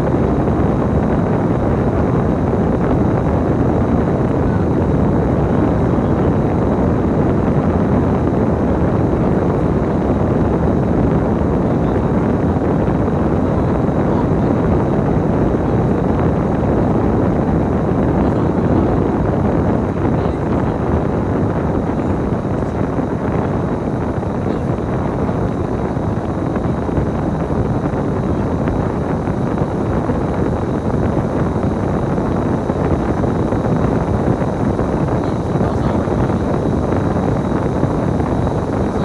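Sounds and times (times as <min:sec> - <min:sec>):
wind noise: 0:00.0 - 0:39.0.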